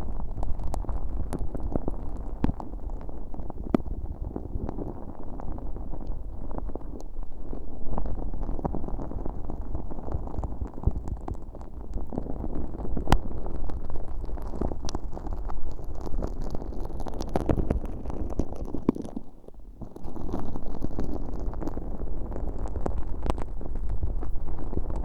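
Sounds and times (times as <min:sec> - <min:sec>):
sticky slime squelching and crackling: 0:00.0 - 0:25.0.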